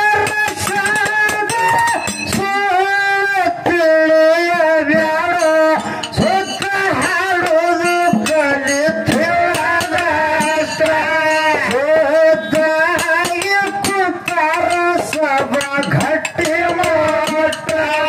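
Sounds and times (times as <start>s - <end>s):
hand percussion beat: 0.0s - 18.0s
person singing into a microphone: 0.0s - 18.0s.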